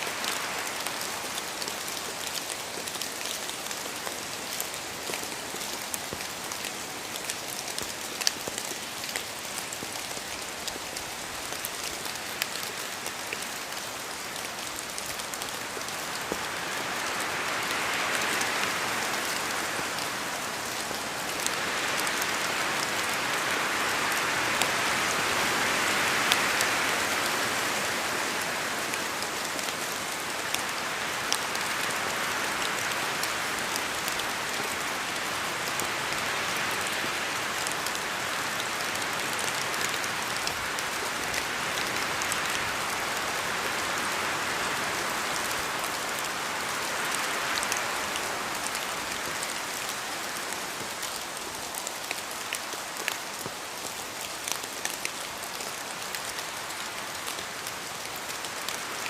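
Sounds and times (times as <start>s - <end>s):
raindrops ticking on surfaces: 0.0s - 59.0s
steady rain falling: 0.0s - 59.0s
wind through trees: 0.0s - 59.0s.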